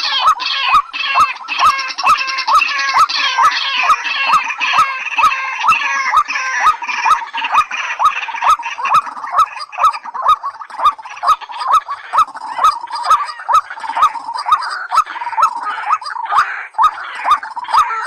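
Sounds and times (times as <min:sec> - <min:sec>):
waterhen calling: 0:00.0 - 0:18.0.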